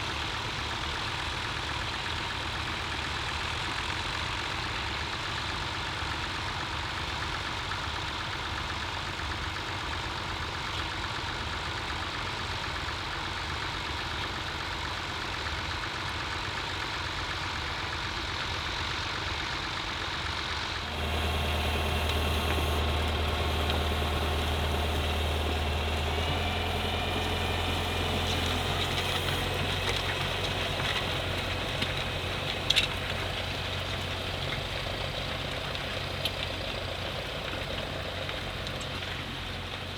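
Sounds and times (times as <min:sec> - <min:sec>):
tractor engine running: 0:00.1 - 0:39.9.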